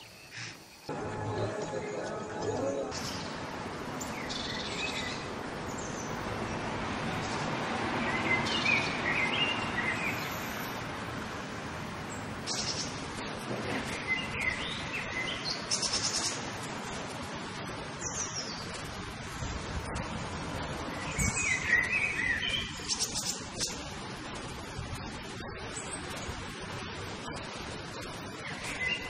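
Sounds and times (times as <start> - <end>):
outdoor background hiss: 0.0 - 29.0
small birds chirping: 0.0 - 29.0.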